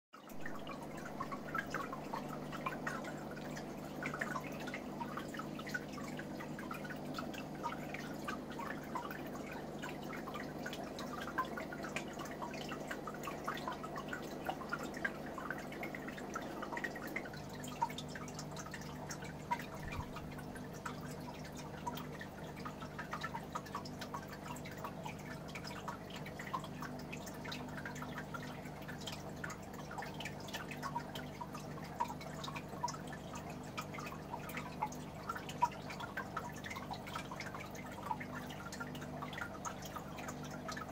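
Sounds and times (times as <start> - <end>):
water dripping and trickling: 0.2 - 40.9.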